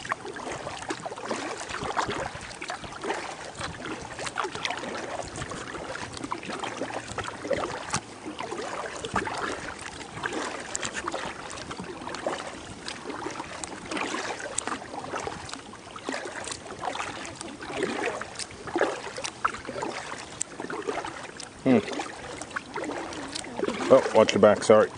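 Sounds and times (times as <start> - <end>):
paddle splashing in water: 0.0 - 24.9
water dripping off paddle: 0.0 - 24.9.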